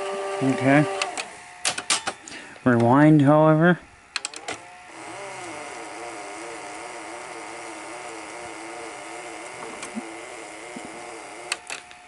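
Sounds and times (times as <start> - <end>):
tape deck motor humming: 0.0 - 12.0.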